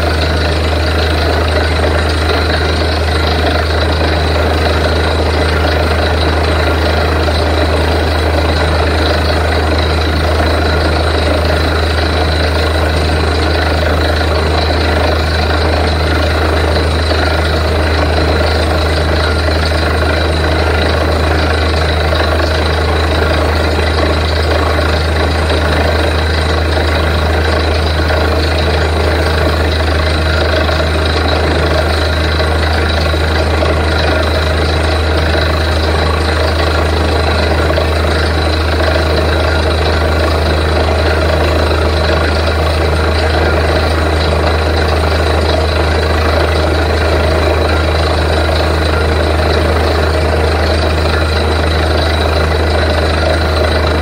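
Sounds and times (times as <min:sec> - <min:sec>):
drilling rig machinery din: 0:00.0 - 0:54.0.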